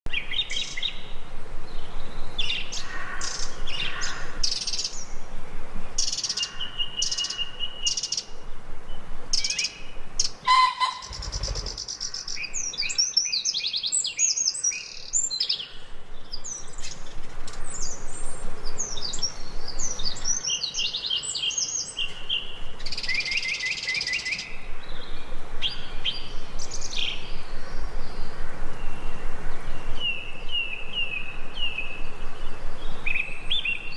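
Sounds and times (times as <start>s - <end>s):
songbirds chirping and singing: 5.9s - 33.9s.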